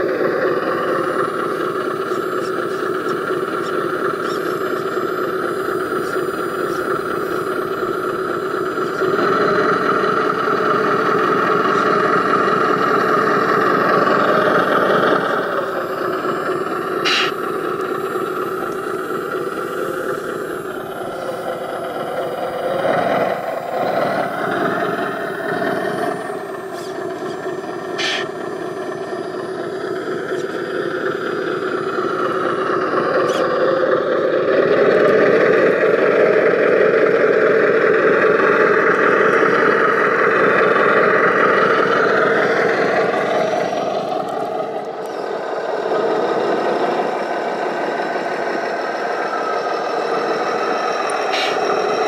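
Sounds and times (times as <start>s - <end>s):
hydraulic tipping system running: 0.0s - 52.0s.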